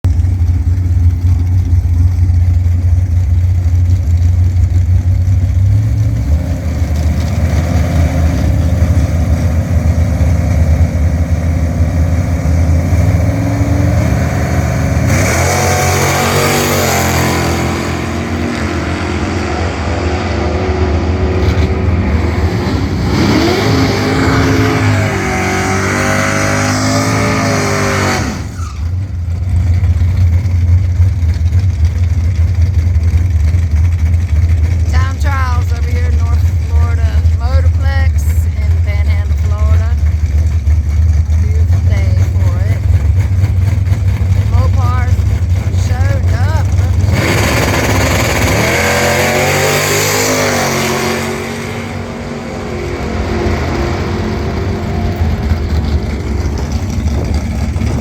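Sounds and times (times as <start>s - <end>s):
race car engine revving: 0.2s - 58.0s.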